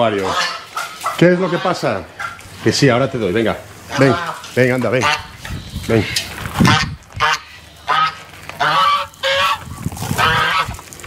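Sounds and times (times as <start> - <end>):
geese honking: 0.0 - 10.8.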